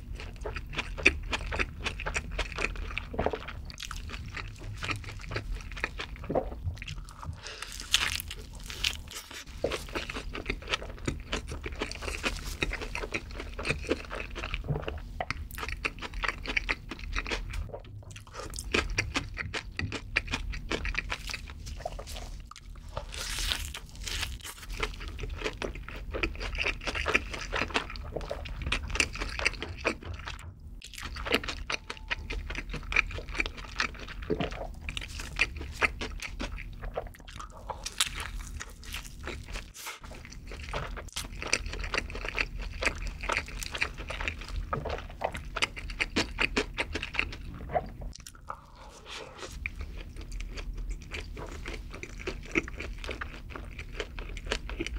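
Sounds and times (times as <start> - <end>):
chewing with crisp crunches: 0.0 - 54.9.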